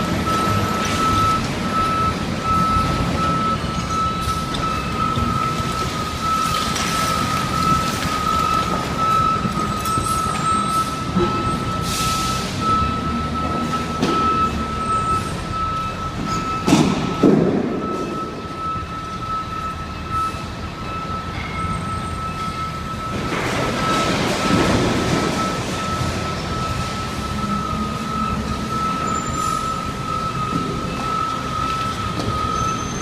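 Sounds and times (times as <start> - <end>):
heavy machinery engine rumble: 0.0 - 33.0.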